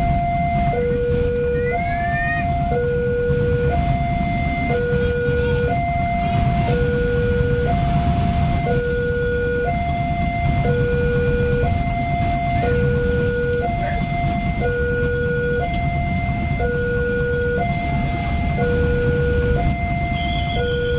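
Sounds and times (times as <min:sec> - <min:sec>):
level crossing two-tone alarm: 0:00.0 - 0:20.9
low rumble of engines: 0:00.0 - 0:20.9.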